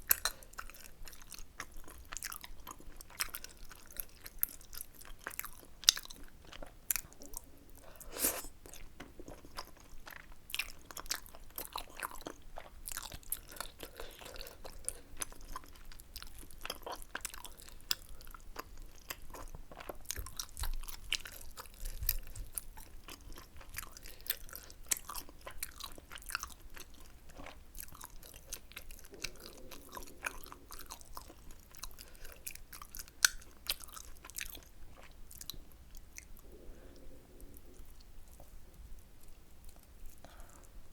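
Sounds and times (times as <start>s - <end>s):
close-miked chewing: 0.0s - 40.9s
food crunching: 0.1s - 36.5s.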